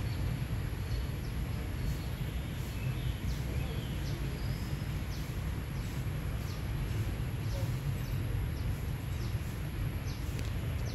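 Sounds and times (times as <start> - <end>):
small bird chirping: 0.0 - 10.9
steady low rumble: 0.0 - 10.9.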